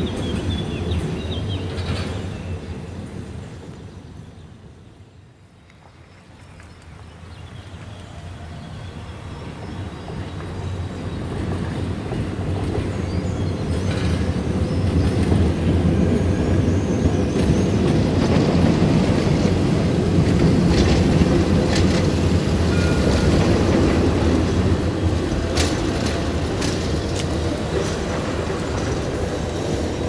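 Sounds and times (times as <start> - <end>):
tram rumbling past: 0.0 - 5.0, 7.8 - 30.0.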